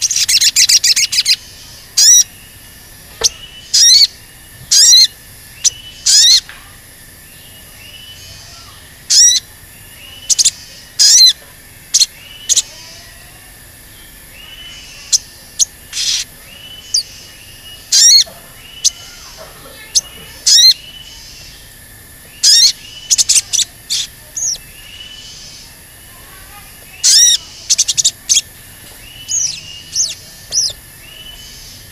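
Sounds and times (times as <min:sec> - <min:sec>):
sunbird high-pitched calls: 0:00.0 - 0:31.9.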